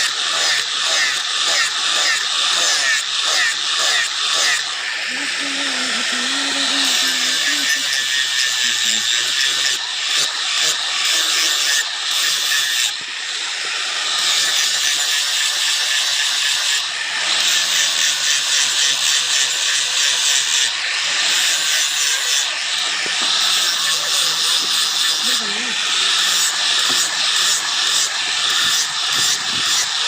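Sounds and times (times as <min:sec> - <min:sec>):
blade sharpening rasping scrape: 0:00.0 - 0:04.7, 0:06.5 - 0:13.0, 0:14.2 - 0:16.8, 0:17.4 - 0:20.7, 0:21.3 - 0:30.0.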